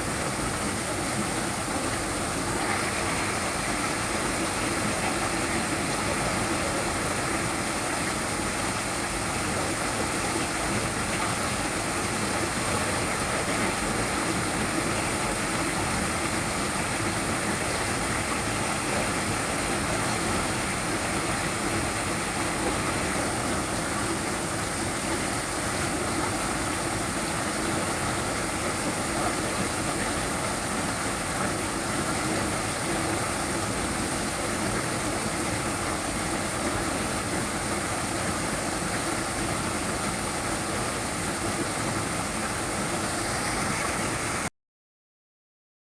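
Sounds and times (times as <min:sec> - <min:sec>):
small waterfall rushing: 0:00.0 - 0:44.5.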